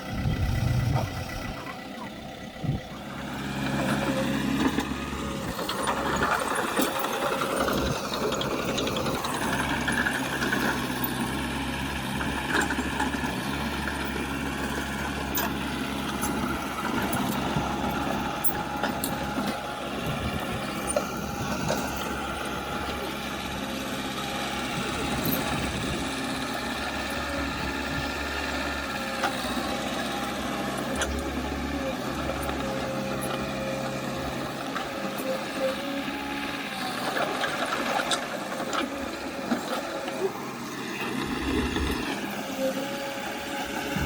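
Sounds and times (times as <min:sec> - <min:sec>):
heavy diesel machinery engine drone: 0:00.0 - 0:44.0.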